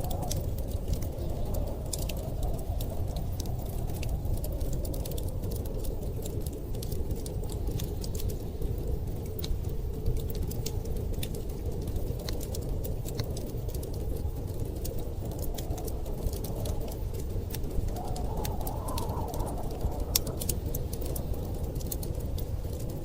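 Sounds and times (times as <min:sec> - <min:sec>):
blizzard wind rumbling: 0:00.0 - 0:23.0
wood fire crackling and popping: 0:00.0 - 0:23.0.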